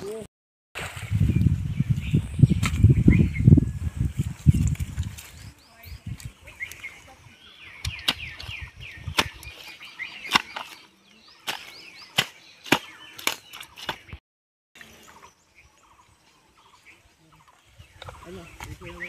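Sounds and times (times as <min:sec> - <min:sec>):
small birds chirping: 0:00.9 - 0:14.2, 0:14.8 - 0:19.0.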